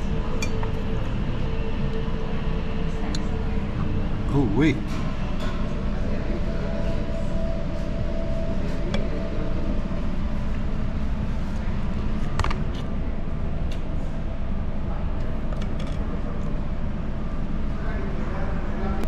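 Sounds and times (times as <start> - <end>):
dining room rumble: 0.0 - 19.0.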